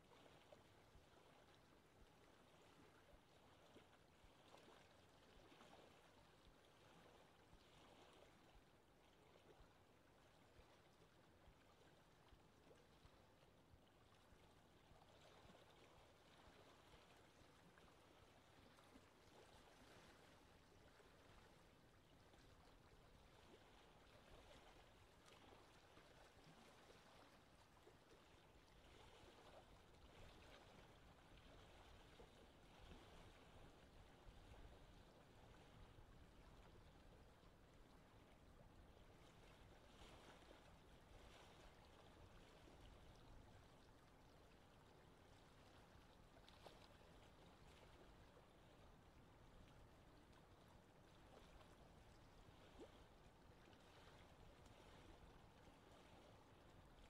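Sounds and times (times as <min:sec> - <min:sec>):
small waves lapping: 0:00.0 - 0:57.0.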